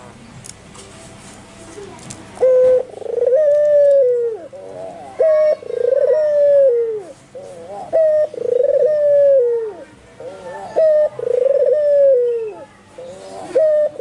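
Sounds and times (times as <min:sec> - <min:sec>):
dove cooing: 0:02.4 - 0:14.0.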